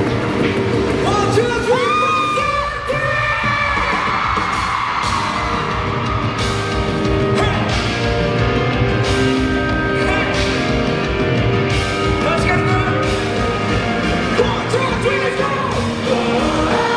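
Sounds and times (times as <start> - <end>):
live rock band: 0.0 - 16.9.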